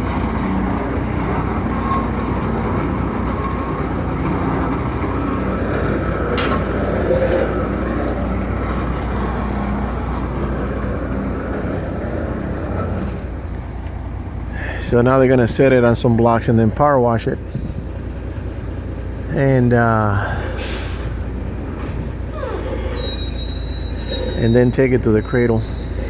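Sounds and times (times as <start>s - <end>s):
crane engine running: 0.0s - 15.7s, 17.4s - 26.0s.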